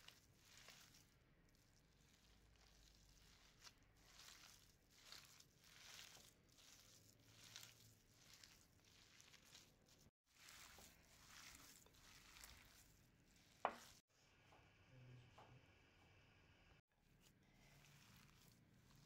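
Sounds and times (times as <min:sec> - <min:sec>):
hands kneading sticky mixture: 0:00.0 - 0:14.1, 0:17.0 - 0:19.0.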